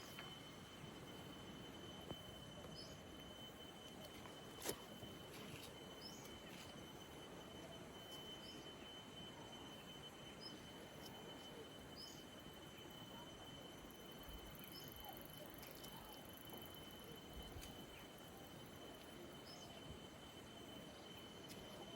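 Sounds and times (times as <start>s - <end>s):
thin steady high tone: 0.0s - 21.9s.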